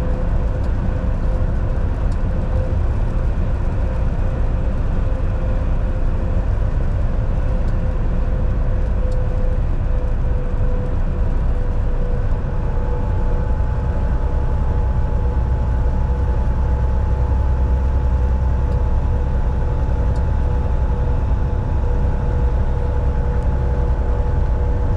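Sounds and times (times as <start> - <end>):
diesel engine drone: 0.0 - 24.9
faint steady whine: 0.0 - 24.9
road rumble: 0.0 - 24.9.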